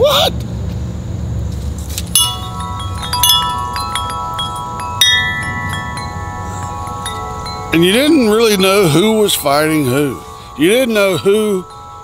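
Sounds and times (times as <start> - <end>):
low steady rumble: 0.5 - 12.0
metal wind chimes ringing: 2.1 - 12.0.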